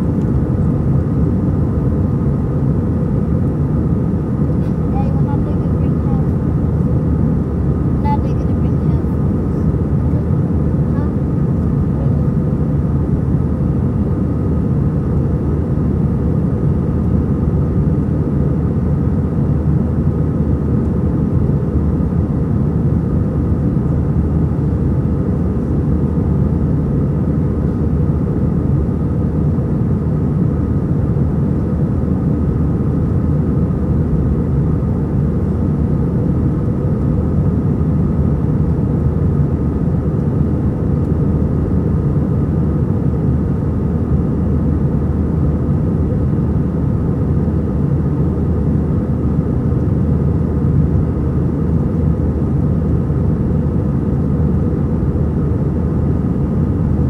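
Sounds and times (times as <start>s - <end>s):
faint steady whine: 0.0s - 57.0s
jet engines rumbling: 0.0s - 57.0s.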